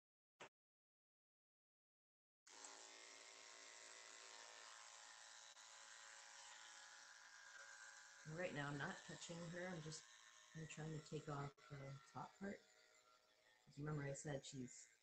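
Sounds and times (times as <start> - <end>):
electric clippers buzzing: 2.5 - 15.0.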